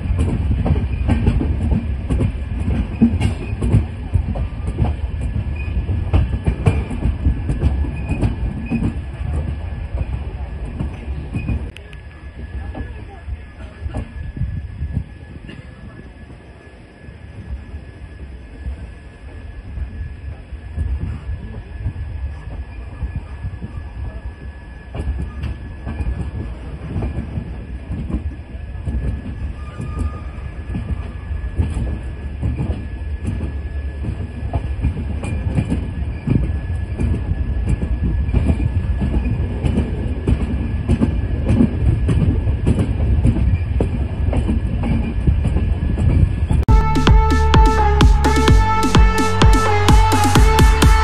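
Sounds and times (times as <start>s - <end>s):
train wheels rumbling on rails: 0.0s - 46.7s.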